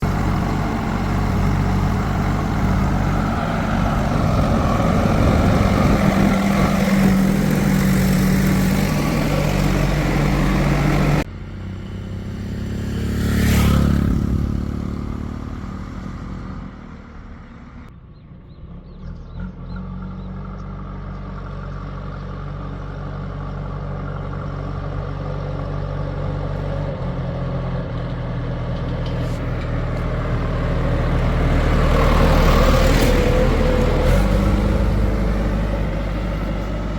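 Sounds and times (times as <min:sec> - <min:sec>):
heavy diesel engines under load: 0:00.0 - 0:36.9.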